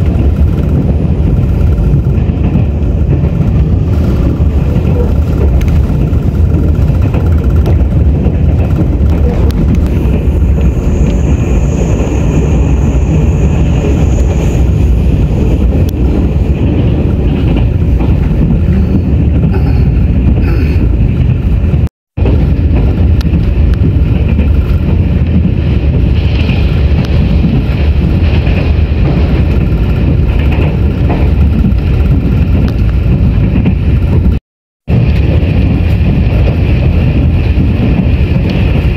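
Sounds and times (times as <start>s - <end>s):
train rumble inside carriage: 0.0s - 38.9s.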